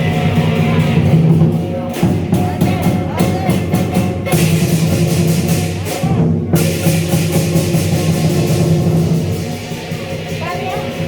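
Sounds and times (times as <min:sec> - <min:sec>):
drum and percussion beat: 0:00.0 - 0:11.0.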